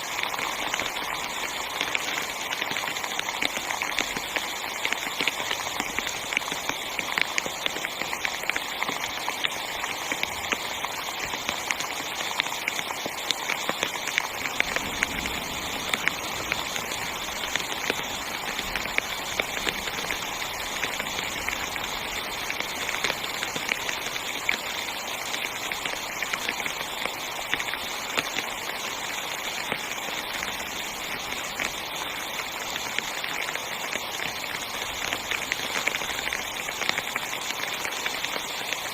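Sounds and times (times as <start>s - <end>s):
heavy rain on tent fabric: 0.0s - 38.9s.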